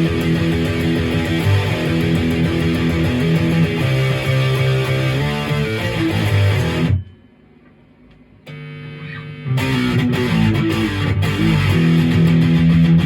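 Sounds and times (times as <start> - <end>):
distorted electric guitar riff: 0.0 - 7.0, 8.5 - 13.0.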